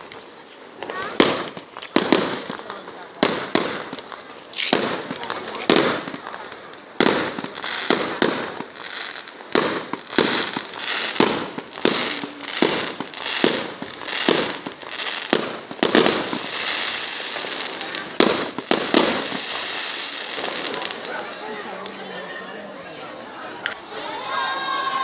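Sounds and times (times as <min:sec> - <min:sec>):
fireworks crackling and hiss: 0:00.0 - 0:25.0
fireworks bangs: 0:00.1 - 0:25.0.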